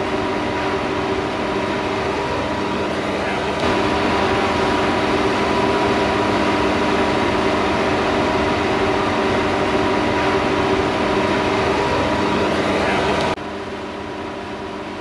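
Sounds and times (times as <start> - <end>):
even rushing noise: 0.0 - 13.4
machine humming with held tones: 0.0 - 15.0.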